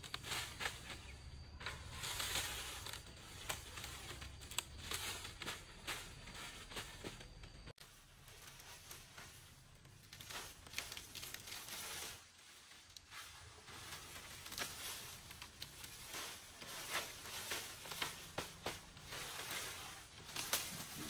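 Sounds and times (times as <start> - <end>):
rustling and crinkling: 0.0 - 21.0.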